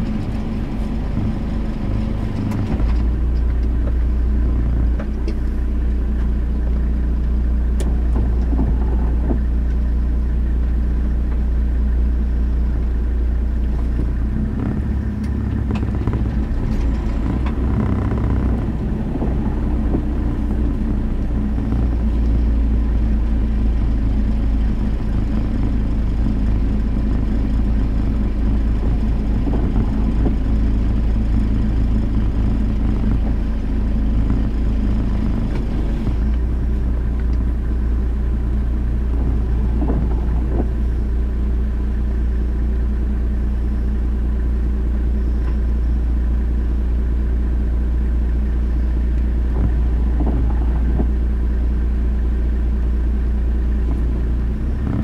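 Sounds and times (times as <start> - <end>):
car engine rumbling: 0.0 - 55.0.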